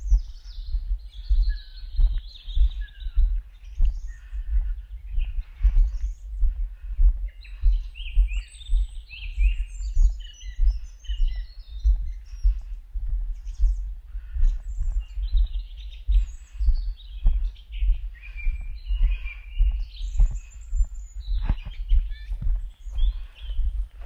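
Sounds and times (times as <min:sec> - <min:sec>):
small birds singing: 0:00.0 - 0:24.0.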